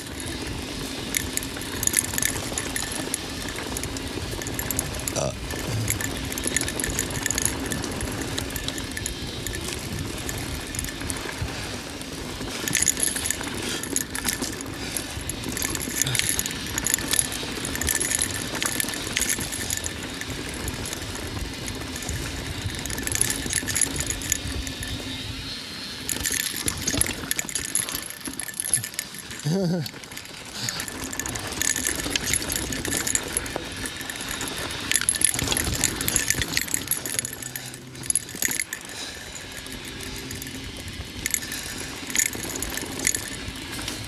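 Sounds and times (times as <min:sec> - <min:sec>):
bike parts clattering: 0:00.0 - 0:25.1, 0:26.0 - 0:44.0
bike tyres rolling over dirt: 0:00.0 - 0:44.0.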